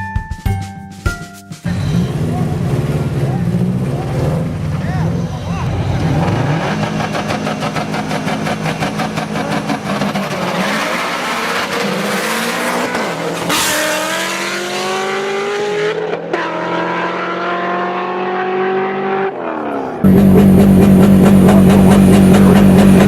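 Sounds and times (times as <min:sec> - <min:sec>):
car engine accelerating hard: 0:01.7 - 0:23.0.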